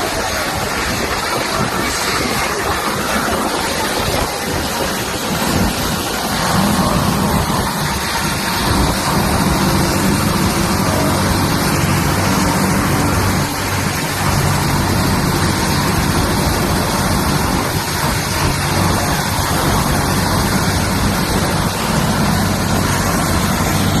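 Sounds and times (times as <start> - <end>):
helicopter running: 0.0 - 24.0.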